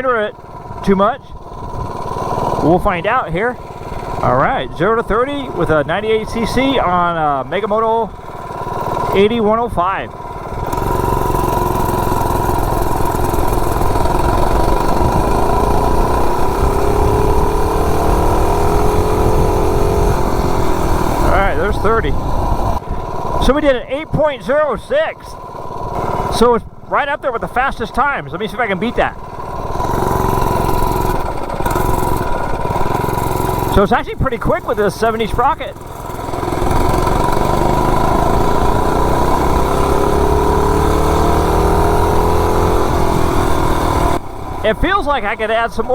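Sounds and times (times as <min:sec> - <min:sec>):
mini bike engine at full throttle: 0:00.0 - 0:45.9.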